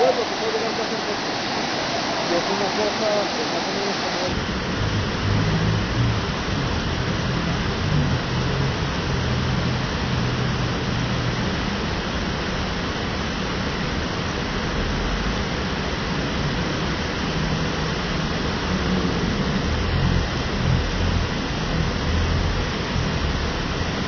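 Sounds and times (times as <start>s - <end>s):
waterfall rushing: 0.0s - 24.0s
low rumbling: 4.3s - 24.0s.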